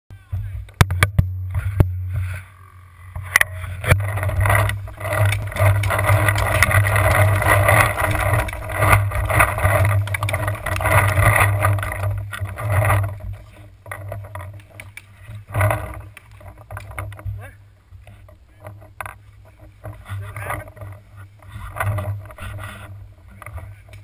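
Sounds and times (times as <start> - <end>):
camera rustling and jostling: 3.2 - 17.4, 18.0 - 24.0.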